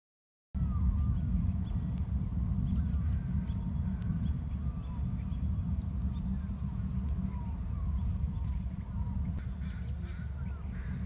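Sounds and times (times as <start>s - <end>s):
bird chirps: 0.6s - 11.0s
low rumble: 0.6s - 11.0s.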